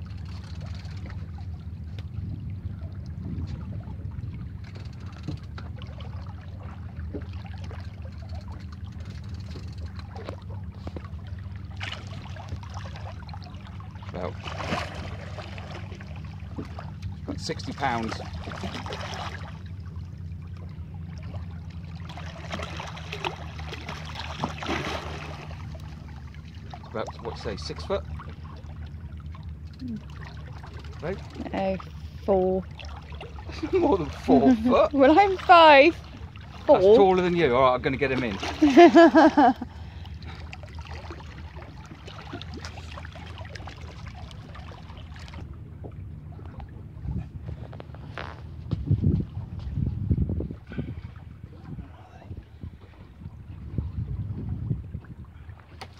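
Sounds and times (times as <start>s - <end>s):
eel thrashing water splashing: 0.0s - 49.5s
steady low hum: 0.0s - 55.9s
steady low rumble: 0.0s - 55.9s.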